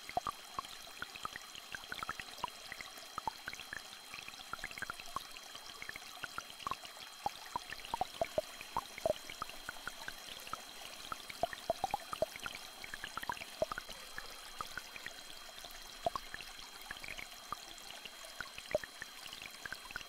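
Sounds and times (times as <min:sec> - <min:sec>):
stream trickling: 0:00.0 - 0:20.0
water plinks and drips: 0:00.0 - 0:20.0.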